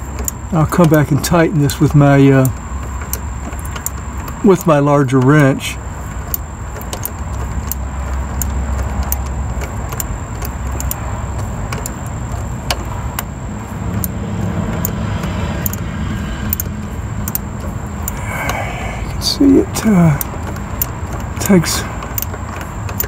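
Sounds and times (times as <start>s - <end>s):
low steady rumble: 0.0s - 23.0s
ratchet clicking: 0.0s - 23.0s.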